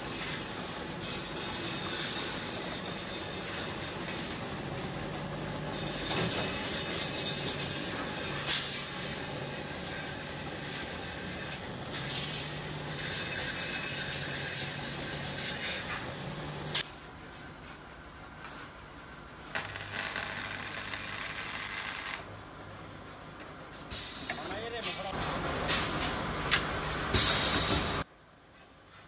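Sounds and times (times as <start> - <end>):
roll-forming machine running: 0.0 - 23.8.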